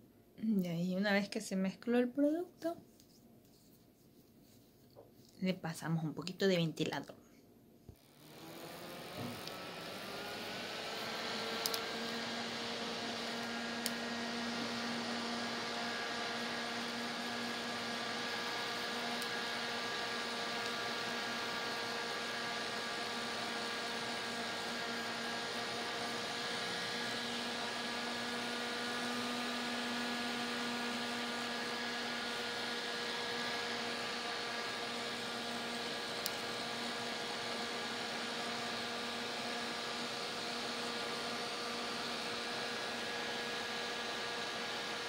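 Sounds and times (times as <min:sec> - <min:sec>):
electric fan running: 0:08.0 - 0:45.0.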